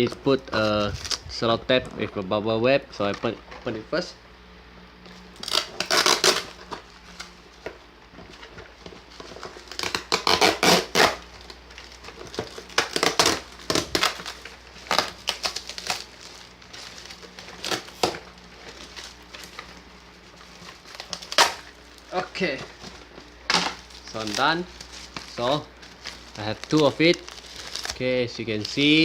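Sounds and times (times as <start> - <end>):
tape tearing: 0.0 - 1.4, 5.1 - 7.4, 8.3 - 29.0
bubble wrap crinkling: 0.0 - 2.0, 5.1 - 29.0.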